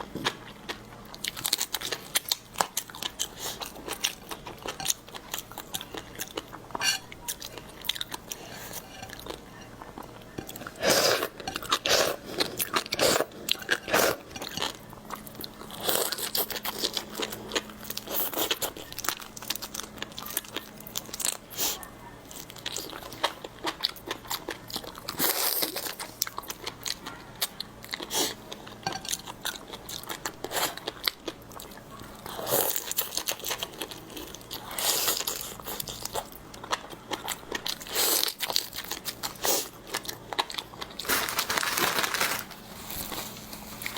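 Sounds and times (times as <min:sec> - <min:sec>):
crunchy chewing of seafood: 0:00.0 - 0:43.9.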